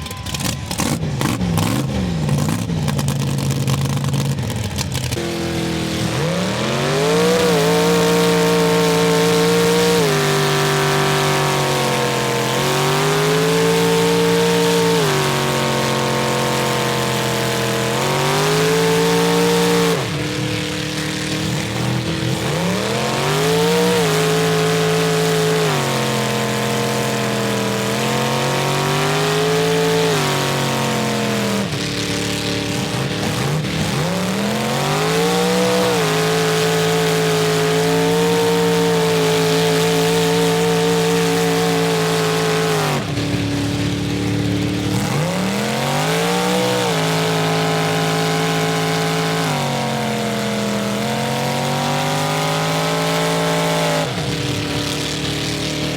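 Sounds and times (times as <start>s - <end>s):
truck engines revving: 0.0s - 55.9s.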